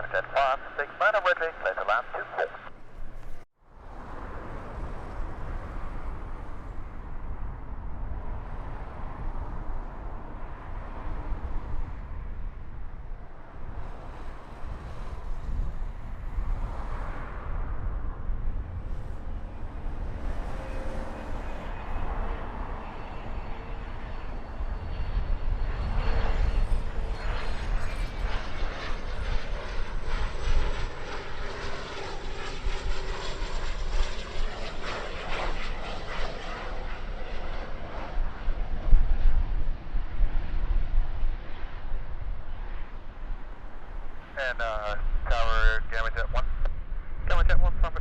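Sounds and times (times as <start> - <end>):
jet engine whine: 0.0 - 48.0
wind buffeting microphone: 2.8 - 44.2.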